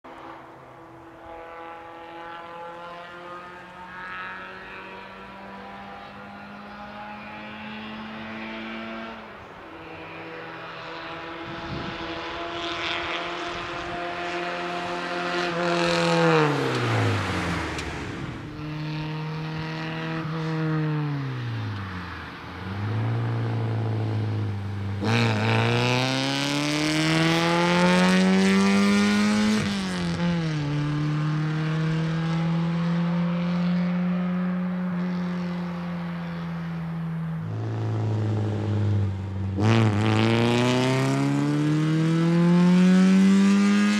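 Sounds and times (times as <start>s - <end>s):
race car engine: 0.1s - 43.9s.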